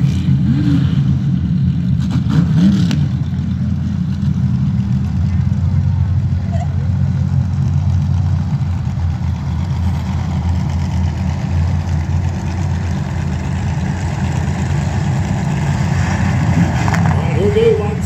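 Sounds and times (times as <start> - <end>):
race car engines droning: 0.0 - 18.0.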